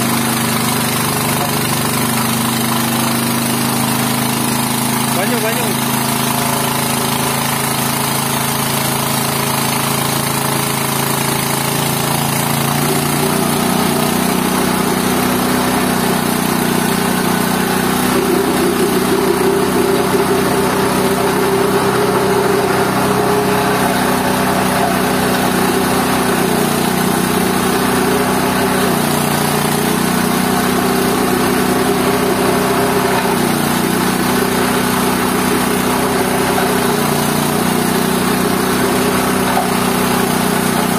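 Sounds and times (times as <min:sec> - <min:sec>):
waste pulverizer grinding: 0:00.0 - 0:40.9.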